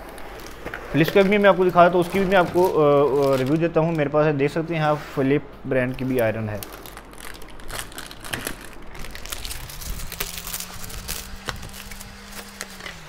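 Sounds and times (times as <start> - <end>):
cardboard and plastic crinkling: 0.0 - 4.1, 5.7 - 13.0
low steady hum: 0.0 - 13.0.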